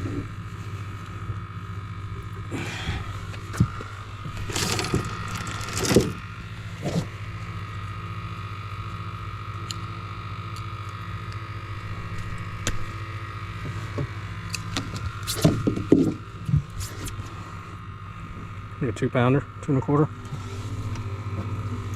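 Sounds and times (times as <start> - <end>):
boat motor humming: 0.0 - 21.9.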